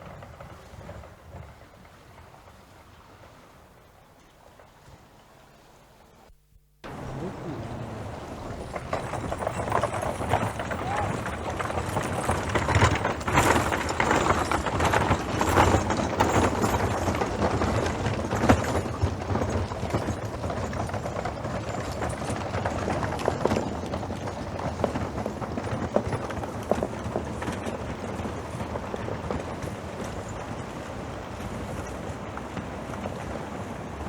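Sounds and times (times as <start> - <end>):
horse hooves clip-clopping: 0.0 - 5.8, 6.8 - 34.0.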